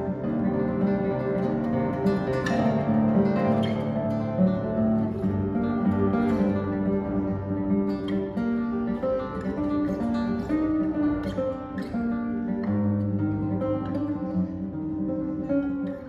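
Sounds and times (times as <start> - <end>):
classical guitar fingerpicking: 0.0 - 16.0.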